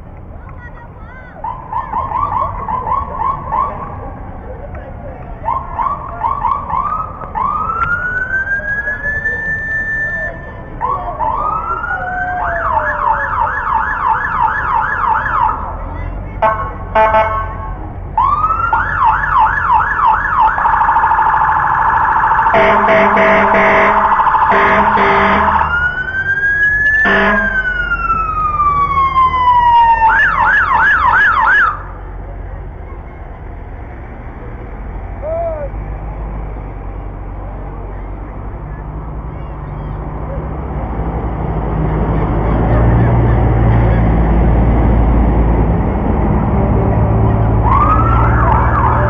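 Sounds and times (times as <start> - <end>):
emergency vehicle sirens: 0.6 - 49.0.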